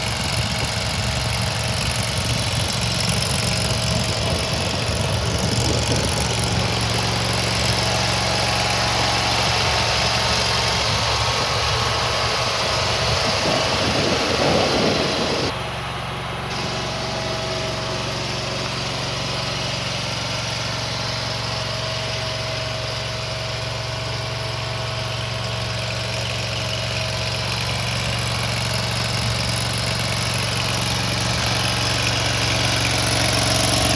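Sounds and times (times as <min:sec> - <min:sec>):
loader engine running: 0:00.0 - 0:33.9.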